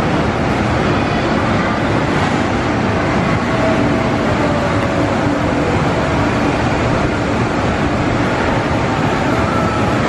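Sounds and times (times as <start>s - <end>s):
fairground ride mechanical rumble: 0.0s - 10.0s.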